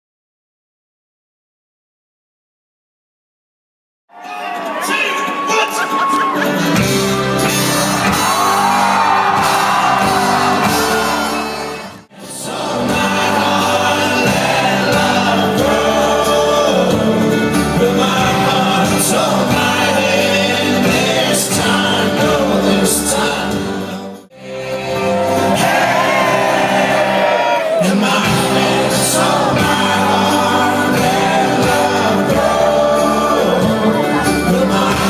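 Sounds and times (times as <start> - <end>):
live band music with singing: 4.2 - 35.0.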